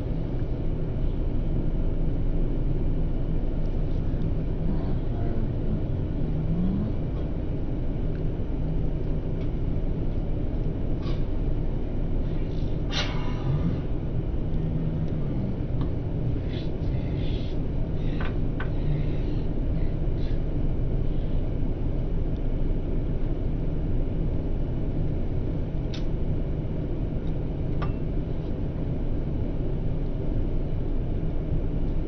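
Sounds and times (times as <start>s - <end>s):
airliner cabin engine drone: 0.0s - 32.0s.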